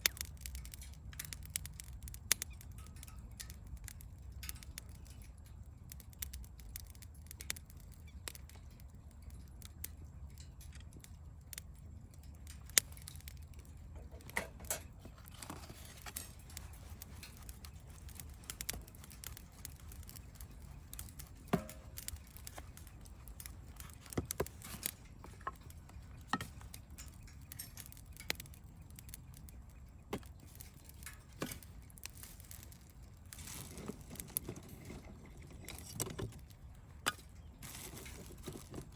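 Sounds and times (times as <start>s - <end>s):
campfire crackling: 0.0s - 38.9s
low steady rumble: 0.0s - 38.9s.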